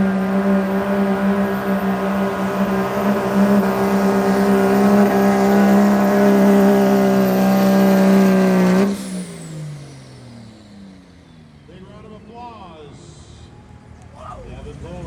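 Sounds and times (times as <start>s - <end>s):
diesel truck engine at full throttle: 0.0s - 15.0s.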